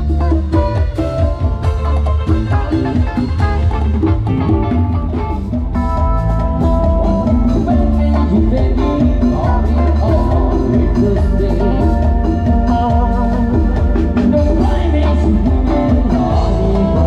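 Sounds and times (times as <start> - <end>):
booming bass: 0.0 - 17.0
live band music over loudspeakers: 0.0 - 17.0.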